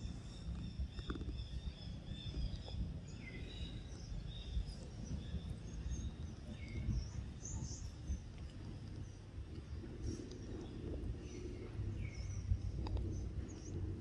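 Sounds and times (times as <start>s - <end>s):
low forest rumble: 0.0s - 14.0s.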